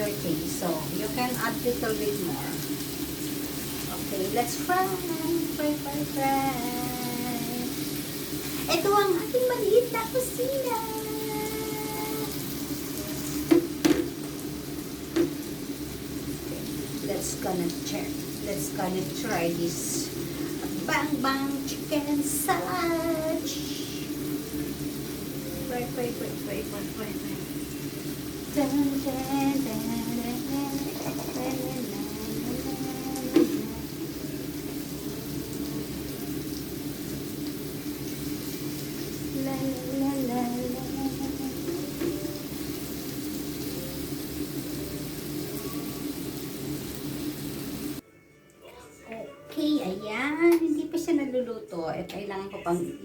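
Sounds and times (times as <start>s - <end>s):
chicken sizzling in a frying pan: 0.0s - 48.0s.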